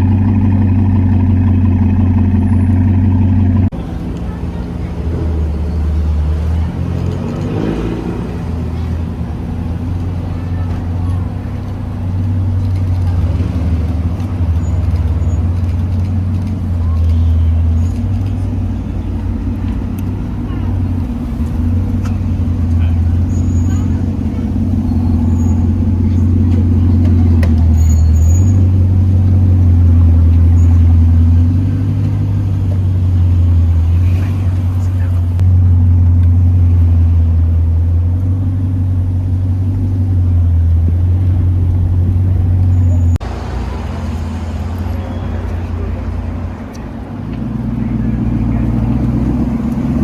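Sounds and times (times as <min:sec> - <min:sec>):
vehicle engine running at low revs: 0:00.0 - 0:50.0.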